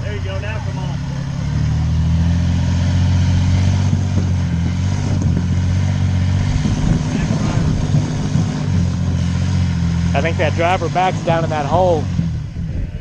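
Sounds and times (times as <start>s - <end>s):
off-road vehicle engine pulling: 0.0s - 13.0s.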